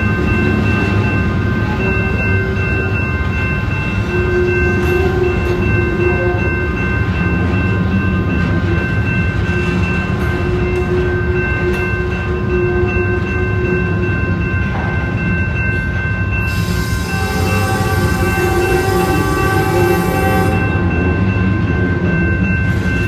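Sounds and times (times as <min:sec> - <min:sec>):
train rumbling on the track: 0:00.0 - 0:23.0.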